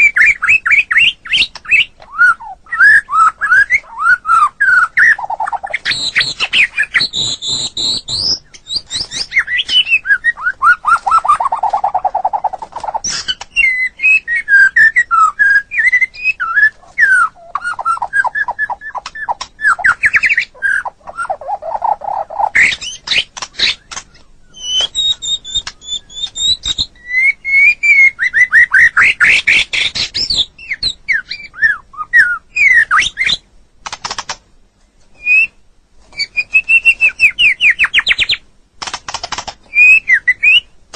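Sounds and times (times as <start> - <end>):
songbird singing trills and whistles: 0.0 - 33.5, 35.1 - 38.4, 39.1 - 40.8.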